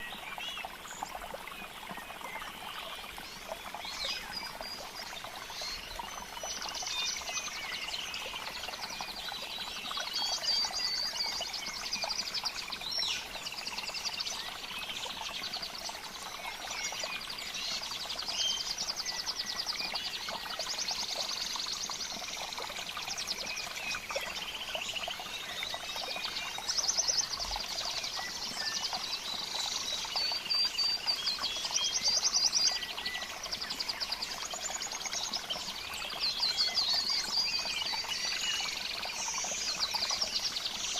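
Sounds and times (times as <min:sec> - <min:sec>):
trickle of running water: 0:00.0 - 0:40.9.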